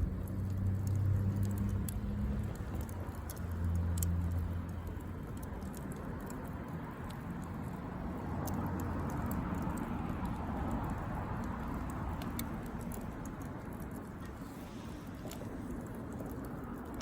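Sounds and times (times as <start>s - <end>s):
campfire crackling and popping: 0.0s - 17.0s
low steady hum: 0.0s - 17.0s.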